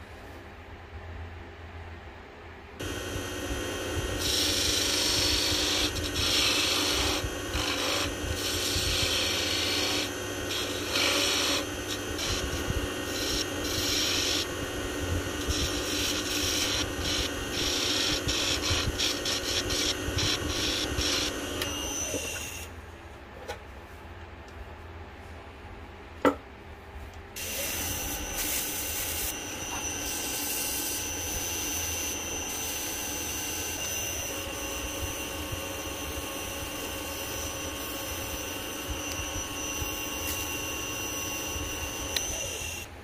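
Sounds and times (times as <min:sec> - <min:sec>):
wood lathe running: 0:02.8 - 0:22.6, 0:27.4 - 0:42.9.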